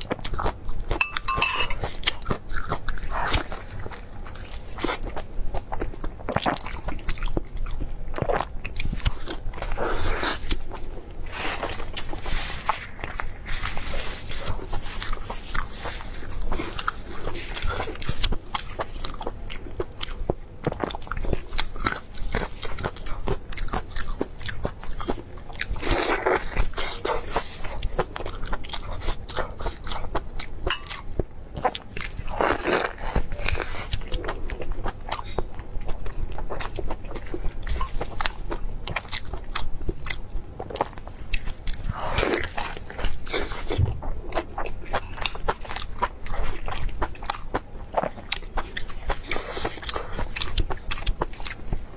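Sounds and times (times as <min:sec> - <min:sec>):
crunching and chewing crab: 0:00.0 - 0:51.9.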